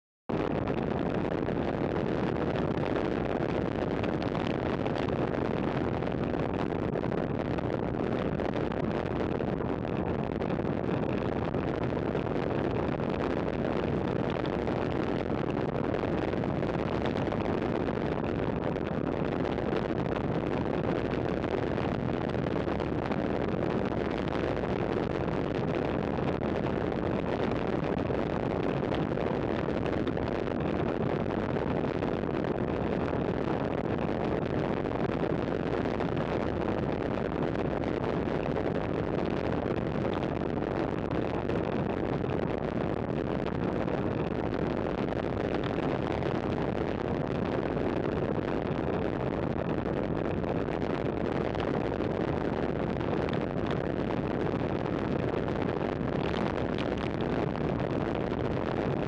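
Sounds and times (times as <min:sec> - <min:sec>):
wind rush on microphone: 0:00.3 - 0:59.0.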